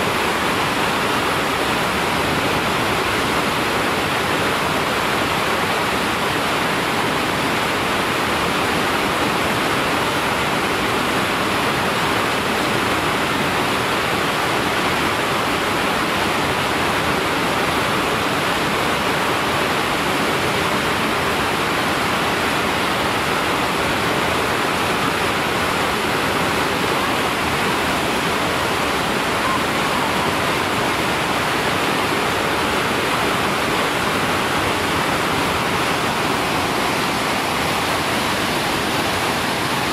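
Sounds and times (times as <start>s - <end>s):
whitewater rapid rushing: 0.0s - 39.9s.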